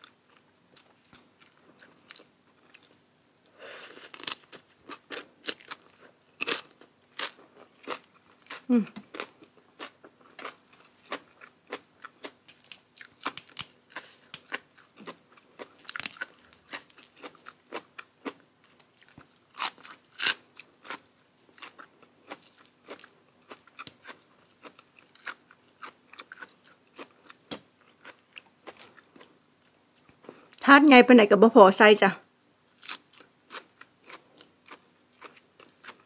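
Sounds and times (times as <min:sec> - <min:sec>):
person chewing crunchy food: 0:00.0 - 0:03.1, 0:03.7 - 0:30.6, 0:32.7 - 0:36.0.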